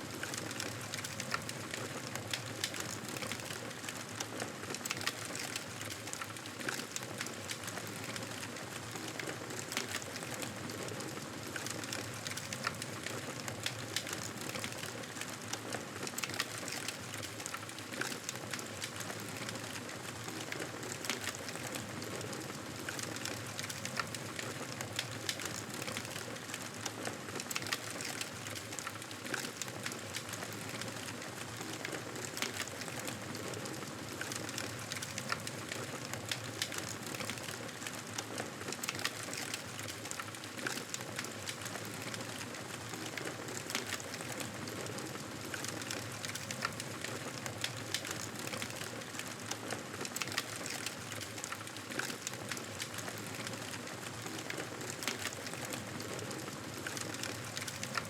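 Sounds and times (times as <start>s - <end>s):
wood fire crackling: 0.1s - 58.0s.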